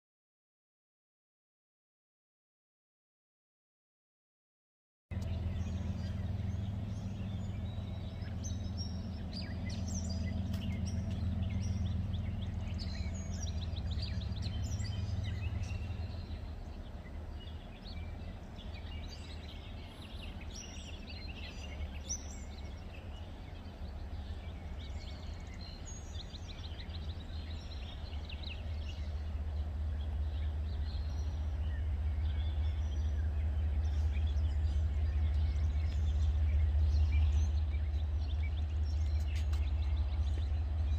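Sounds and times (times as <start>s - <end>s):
small birds chirping: 5.1s - 40.9s
steady low rumble: 5.1s - 40.9s.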